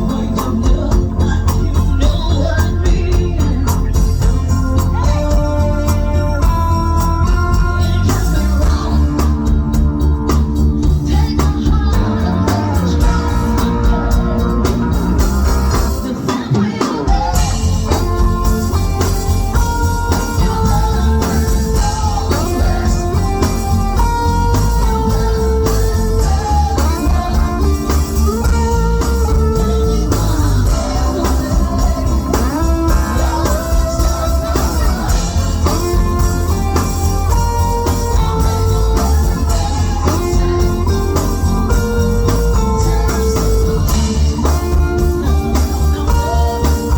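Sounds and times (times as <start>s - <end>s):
person singing: 0.0s - 46.9s
rock band playing: 0.0s - 46.9s.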